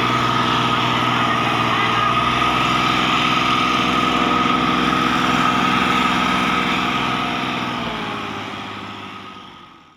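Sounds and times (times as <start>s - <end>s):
tractor diesel engine under load: 0.0s - 9.9s.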